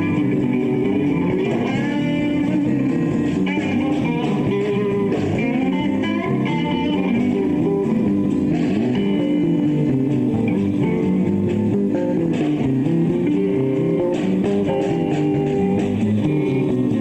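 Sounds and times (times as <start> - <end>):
electric guitar: 0.0 - 17.0
live blues-rock band: 0.0 - 17.0.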